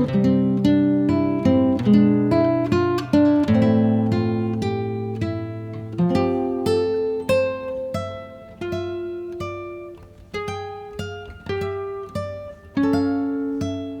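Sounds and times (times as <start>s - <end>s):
plucked guitar notes and chords: 0.0s - 14.0s.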